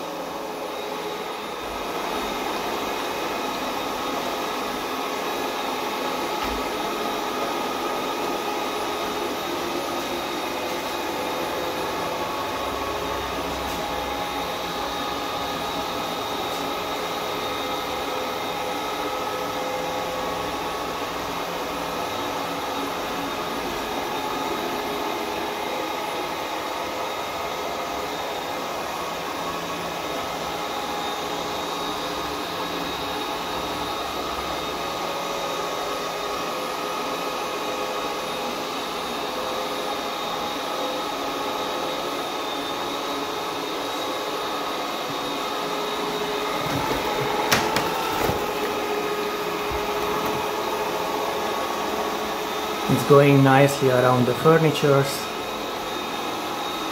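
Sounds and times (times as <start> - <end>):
robot vacuum cleaner whirring: 0.0 - 56.9.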